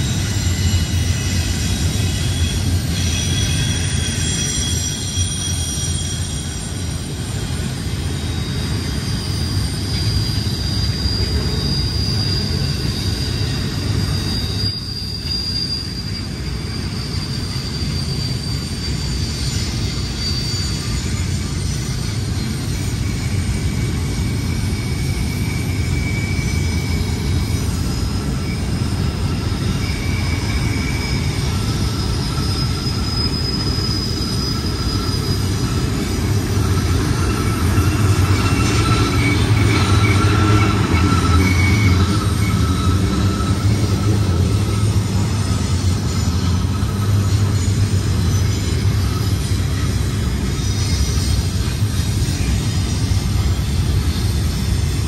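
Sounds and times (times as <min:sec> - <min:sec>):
high-pitched wheel squeal: 0:00.0 - 0:55.0
train wheels rumbling on rails: 0:00.0 - 0:55.0.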